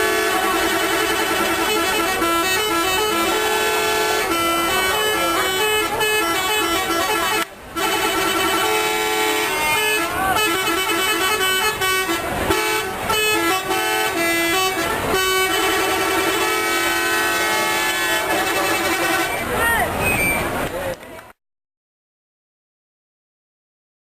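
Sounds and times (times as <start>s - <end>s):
multi-tone bus horns playing tune: 0.0s - 19.6s.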